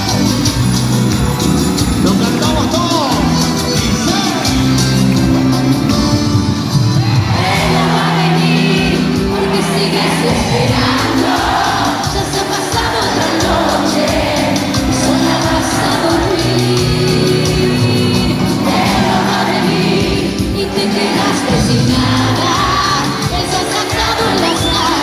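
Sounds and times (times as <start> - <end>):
crowd voices: 0.0 - 25.0
loud cumbia music with singing: 0.0 - 25.0.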